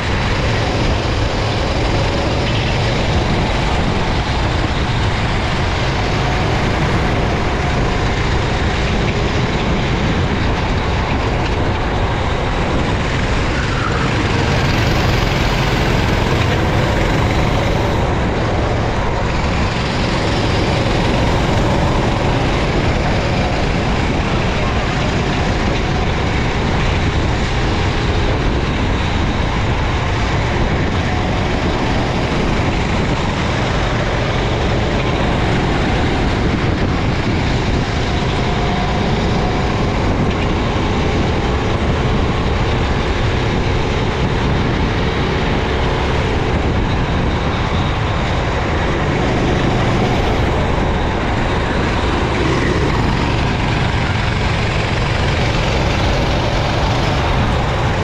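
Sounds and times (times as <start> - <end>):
dense rushing noise: 0.0 - 58.0
kart engine running at speed: 0.0 - 58.0.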